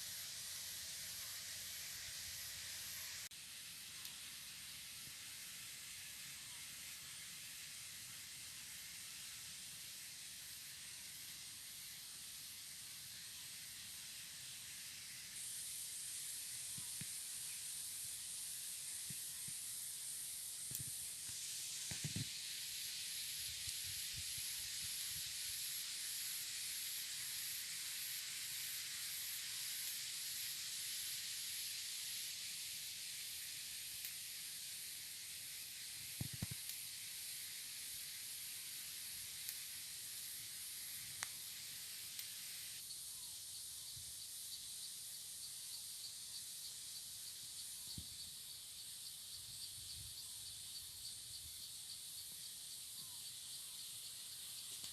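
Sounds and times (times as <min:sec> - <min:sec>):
insect chorus: 0:00.0 - 0:54.9.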